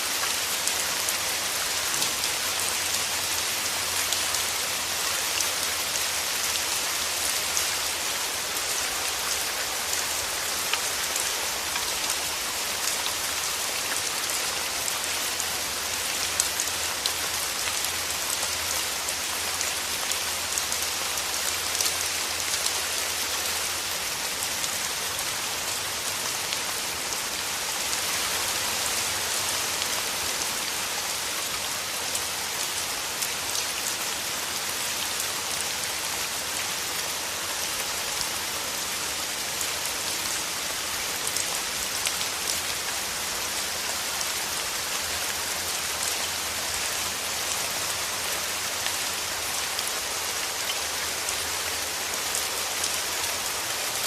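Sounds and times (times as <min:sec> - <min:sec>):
rain hissing through trees: 0:00.0 - 0:54.0
raindrops pattering on leaves: 0:00.0 - 0:54.0.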